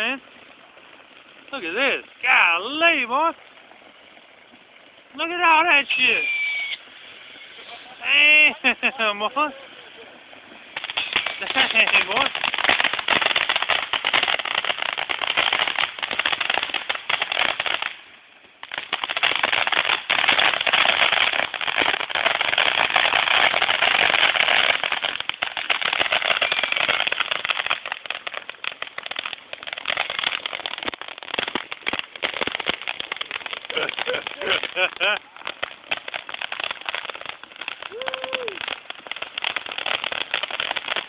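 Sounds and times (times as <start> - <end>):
fireworks crackling and popping: 0.0 - 41.0.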